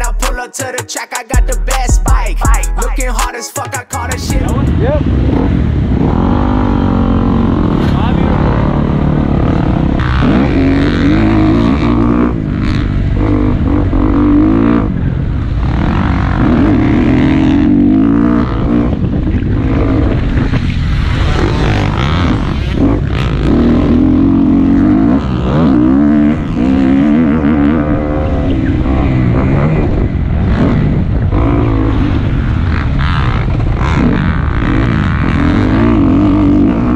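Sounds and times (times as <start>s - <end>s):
dirt bike engine revving: 4.0s - 36.9s.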